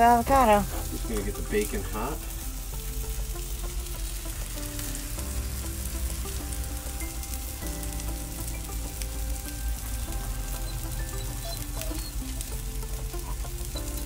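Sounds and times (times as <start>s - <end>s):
meat sizzling on a griddle: 0.0s - 14.0s
soft background music: 0.0s - 14.0s.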